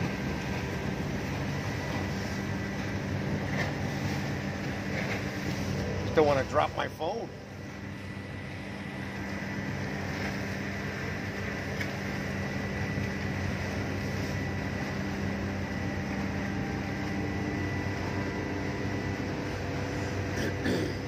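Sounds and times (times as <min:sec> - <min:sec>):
faint high whine: 0:00.0 - 0:20.9
ferry engines humming: 0:00.0 - 0:21.0.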